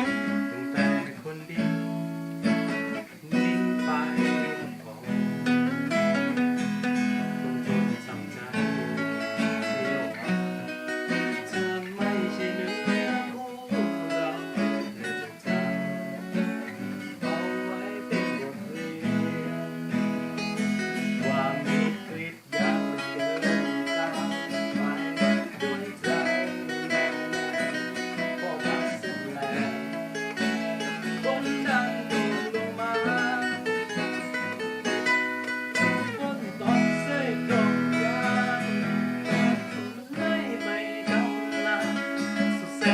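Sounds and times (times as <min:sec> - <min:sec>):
acoustic guitar music: 0:00.0 - 0:42.9.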